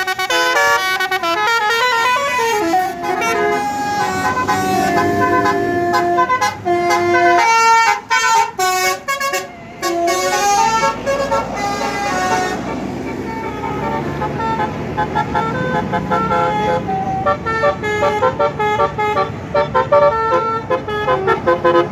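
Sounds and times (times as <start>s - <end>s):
bus multi-tone musical horn: 0.0s - 21.9s.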